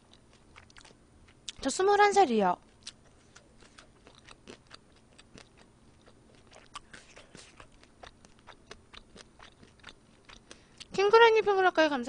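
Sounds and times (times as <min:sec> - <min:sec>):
person chewing food: 0:00.0 - 0:01.6, 0:02.6 - 0:11.0.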